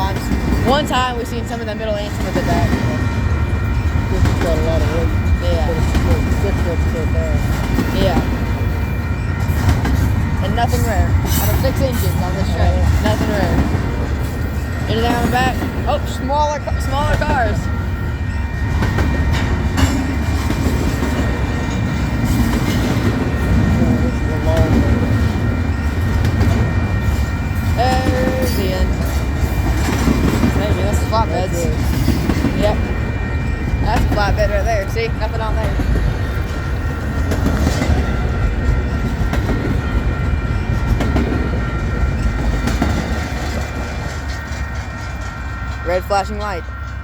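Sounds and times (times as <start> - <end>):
wheels clacking over rail joints: 0.0 - 46.1
train wheels rumbling on rail: 0.0 - 47.0.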